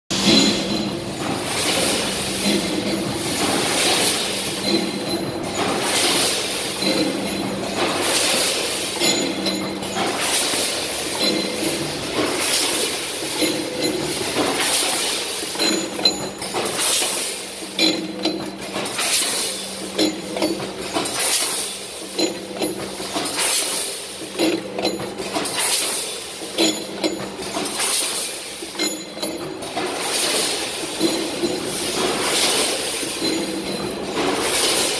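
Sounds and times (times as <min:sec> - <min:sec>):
packing machine clinking clatter: 0:00.1 - 0:34.9.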